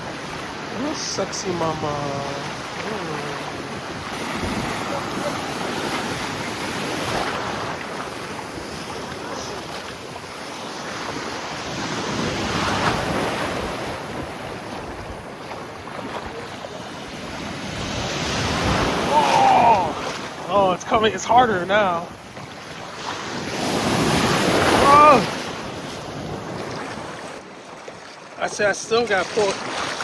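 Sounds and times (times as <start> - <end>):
ocean surf washing: 0.0 - 30.0.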